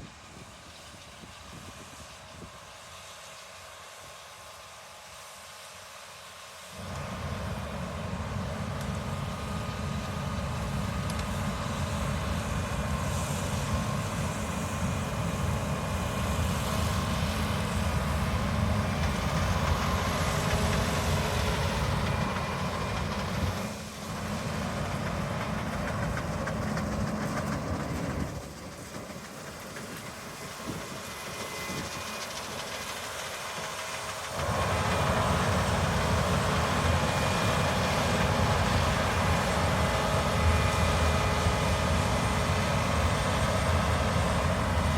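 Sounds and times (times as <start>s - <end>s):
harvest machinery engine clatter: 6.7s - 44.9s.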